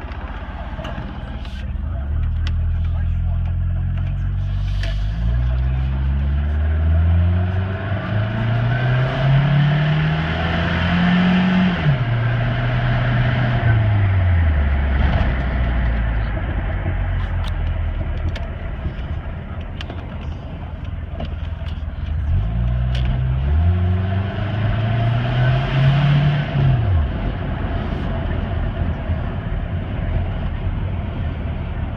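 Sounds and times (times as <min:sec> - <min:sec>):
turbocharged engine accelerating: 0:00.0 - 0:31.9.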